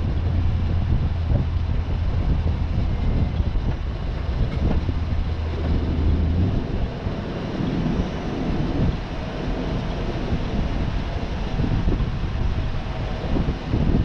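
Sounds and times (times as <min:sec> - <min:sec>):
heavy machine engine droning: 0:00.0 - 0:14.0.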